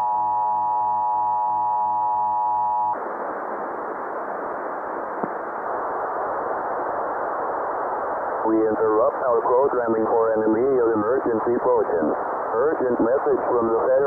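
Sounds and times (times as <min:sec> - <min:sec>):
broadcast static hiss: 0:00.0 - 0:14.0.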